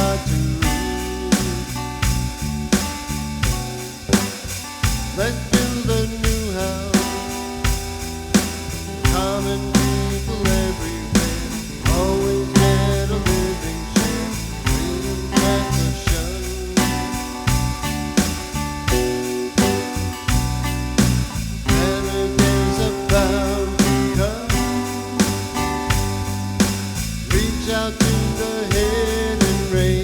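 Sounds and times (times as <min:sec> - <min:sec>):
bass line: 0:00.0 - 0:30.0
guitars strumming: 0:00.0 - 0:30.0.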